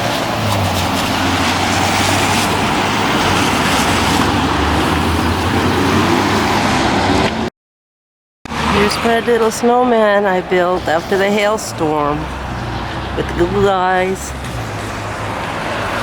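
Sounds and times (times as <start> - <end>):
road traffic rumble: 0.0 - 7.5, 8.5 - 16.0.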